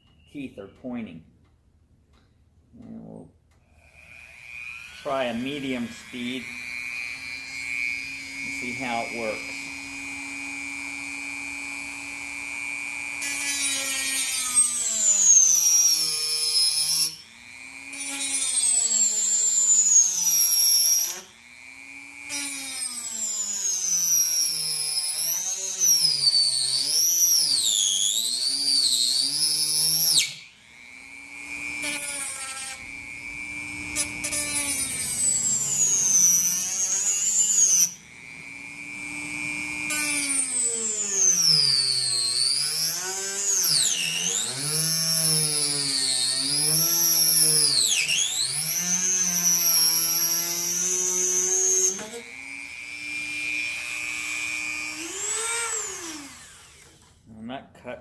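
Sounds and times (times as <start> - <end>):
rotary tool saw cutting wood: 3.6 - 57.2.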